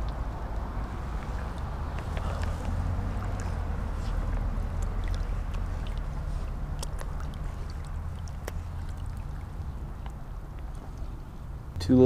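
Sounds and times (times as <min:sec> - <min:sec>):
water sloshing around waders: 0:00.0 - 0:11.7
small ticks and drips: 0:00.0 - 0:11.8
steady low rumble: 0:00.0 - 0:11.9.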